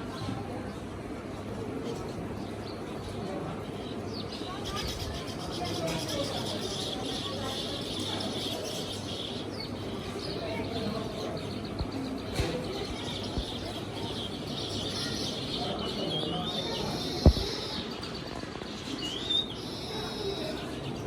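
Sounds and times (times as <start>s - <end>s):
small birds chirping: 1.4s - 21.0s.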